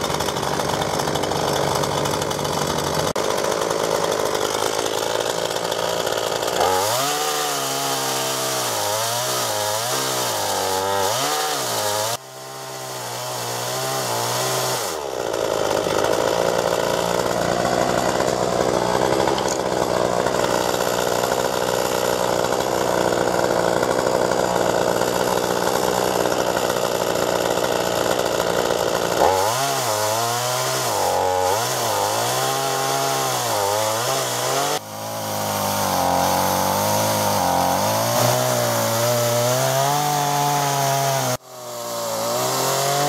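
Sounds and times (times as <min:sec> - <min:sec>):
chainsaw cutting through log: 0:00.0 - 0:43.0.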